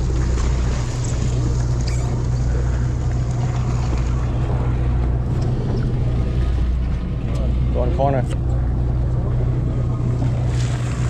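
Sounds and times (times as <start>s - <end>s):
boat engine droning: 0.0s - 11.0s
wind and water rushing: 0.0s - 11.0s.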